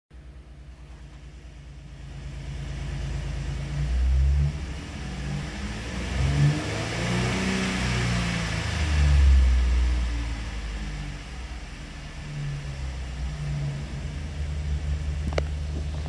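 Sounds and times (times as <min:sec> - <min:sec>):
car engine revving: 0:02.0 - 0:16.0.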